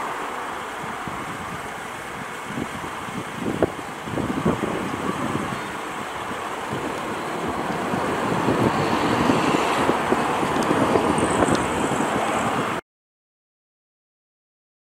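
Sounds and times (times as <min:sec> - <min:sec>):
jet engines roaring: 0:00.0 - 0:12.8.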